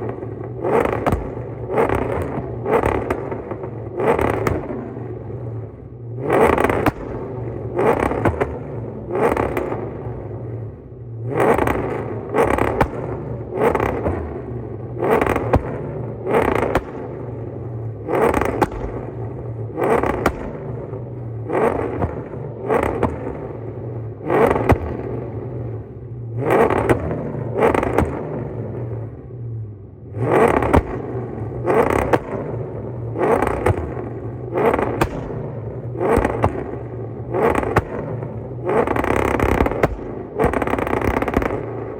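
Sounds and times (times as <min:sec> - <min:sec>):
car engine revving: 0:00.0 - 0:41.9
exhaust pops: 0:00.0 - 0:41.9.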